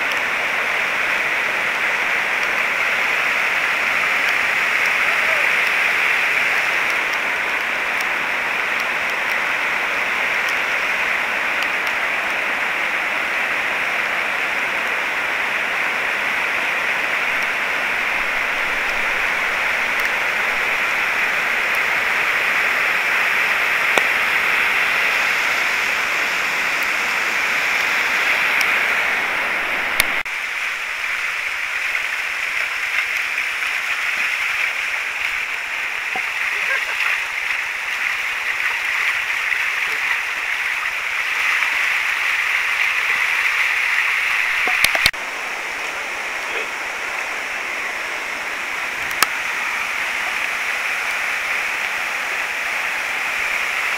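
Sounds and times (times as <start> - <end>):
river rushing over weir: 0.0 - 53.9
shallow water rushing: 0.0 - 53.9.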